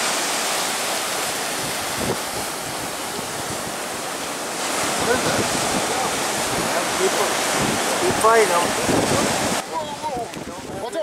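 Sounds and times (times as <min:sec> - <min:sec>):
ocean surf washing: 0:00.0 - 0:11.0
wind noise on microphone: 0:01.2 - 0:11.0.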